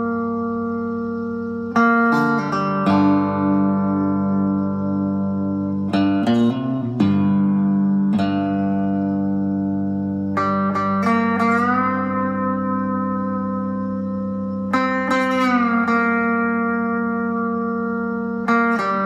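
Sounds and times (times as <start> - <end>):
slide guitar: 0.0 - 19.0.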